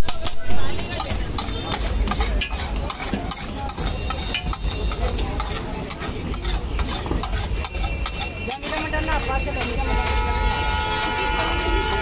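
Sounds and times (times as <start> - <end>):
metal spatula scraping on griddle: 0.6 - 12.0.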